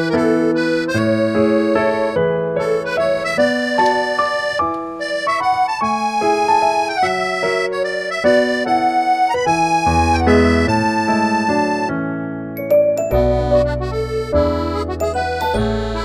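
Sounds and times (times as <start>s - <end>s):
instrumental background music: 0.0s - 16.0s.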